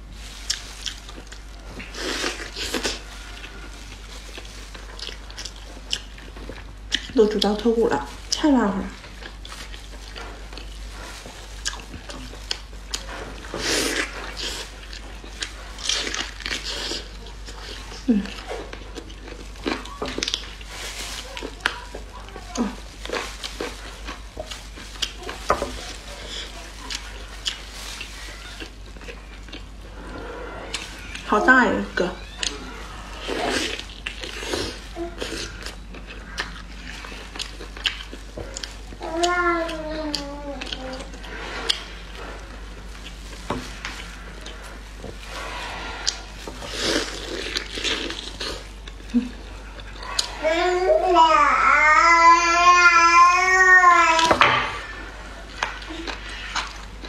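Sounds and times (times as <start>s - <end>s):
wet crackling of meat tearing: 0.0s - 29.8s, 32.2s - 50.4s
plastic gloves crinkling: 0.0s - 57.0s.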